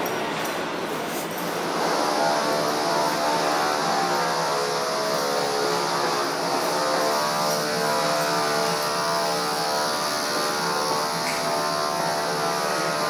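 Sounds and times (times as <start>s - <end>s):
subway train motors droning: 0.0s - 13.0s.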